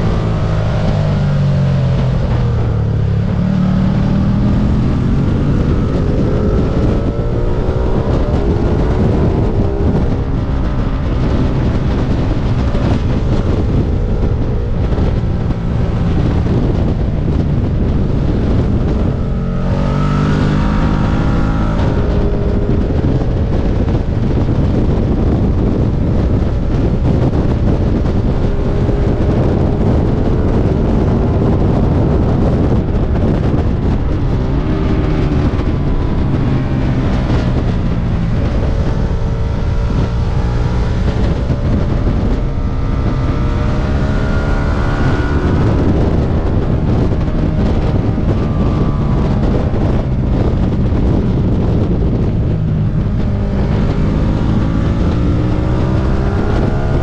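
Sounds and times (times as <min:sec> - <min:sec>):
motorcycle engine revving: 0:00.0 - 0:57.0
wind rushing on microphone: 0:00.0 - 0:57.0.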